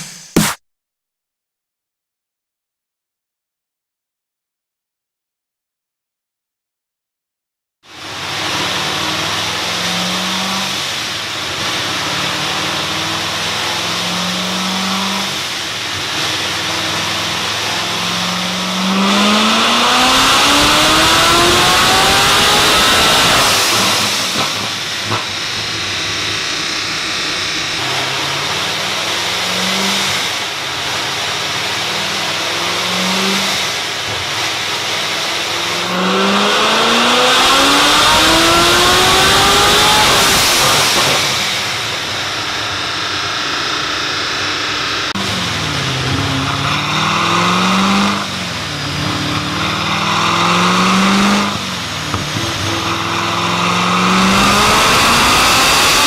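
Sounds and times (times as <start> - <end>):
car engine revving: 8.0 - 56.0.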